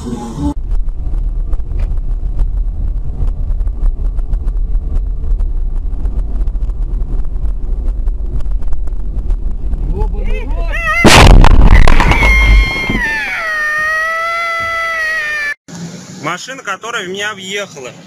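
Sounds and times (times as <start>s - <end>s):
car engine and road rumble: 0.0s - 12.9s, 15.7s - 18.0s.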